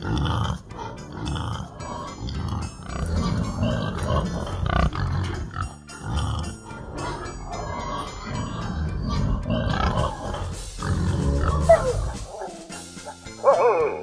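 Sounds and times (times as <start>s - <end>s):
background music: 0.0s - 14.0s
sow grunting: 0.0s - 14.0s.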